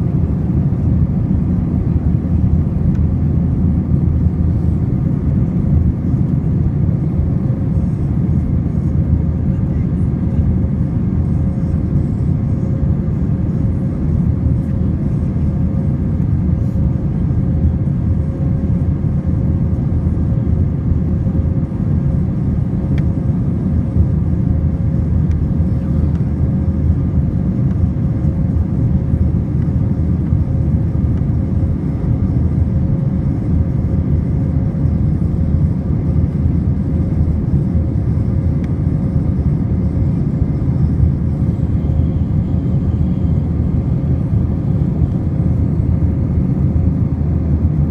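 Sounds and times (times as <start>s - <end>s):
faint constant hum: 0.0s - 47.9s
jet airliner cabin noise: 0.0s - 47.9s.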